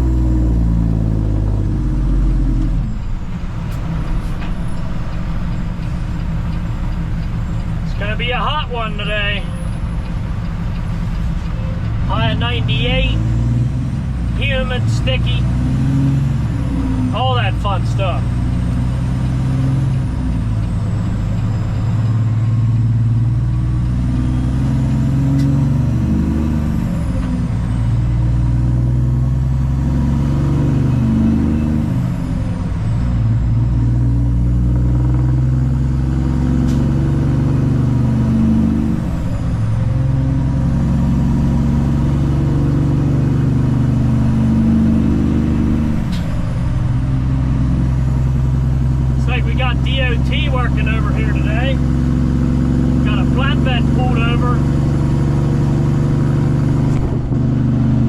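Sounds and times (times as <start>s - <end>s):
truck diesel engine with gear shifts: 0.0s - 58.0s.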